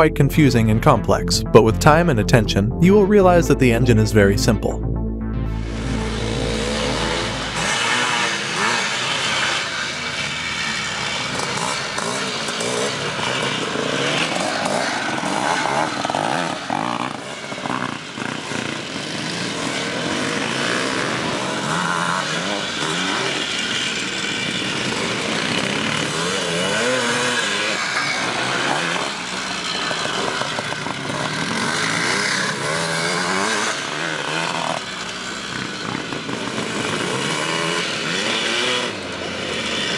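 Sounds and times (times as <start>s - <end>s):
motorcycle engine revving: 5.6s - 39.9s.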